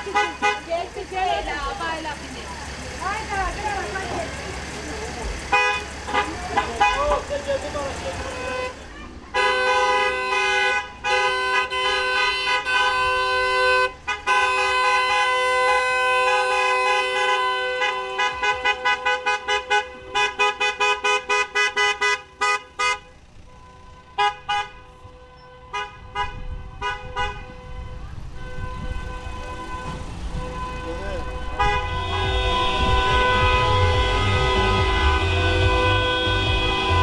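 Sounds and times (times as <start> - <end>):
car horn honking: 0.0 - 2.1, 3.0 - 37.0.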